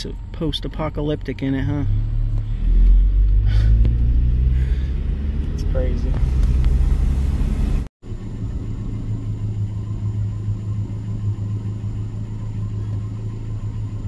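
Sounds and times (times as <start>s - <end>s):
road rumble: 0.0s - 14.0s
vehicle engine droning: 0.0s - 14.0s.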